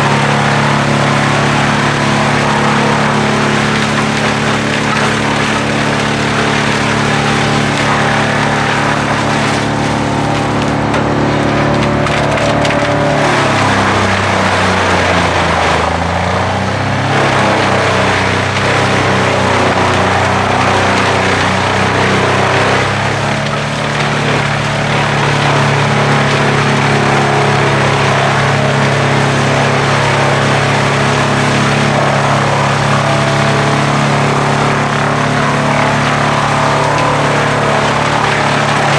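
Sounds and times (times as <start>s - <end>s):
wood chipper engine drone: 0.0s - 38.9s
wood cracking and splintering: 0.0s - 38.9s.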